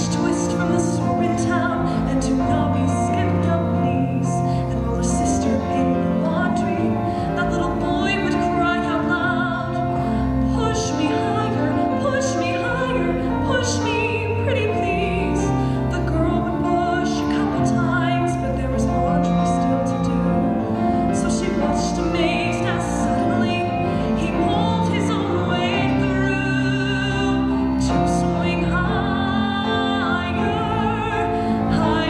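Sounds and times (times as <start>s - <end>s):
sustained instrumental accompaniment: 0.0s - 32.0s
woman singing with vibrato: 0.0s - 32.0s.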